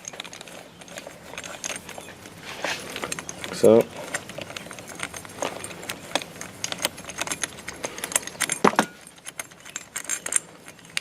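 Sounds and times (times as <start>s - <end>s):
hand tools clinking: 0.0s - 11.0s.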